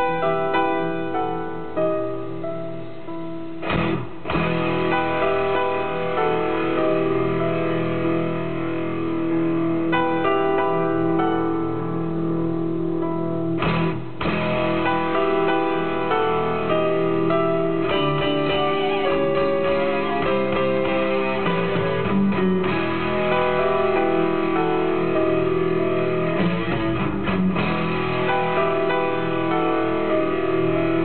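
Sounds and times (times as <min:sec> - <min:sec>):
guitar music with held notes: 0:00.0 - 0:31.0.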